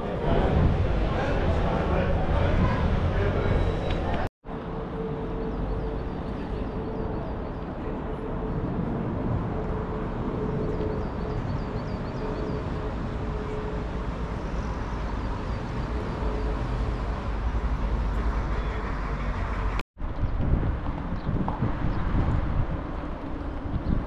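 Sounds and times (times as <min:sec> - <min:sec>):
vehicle noise rumble: 0:00.0 - 0:24.0.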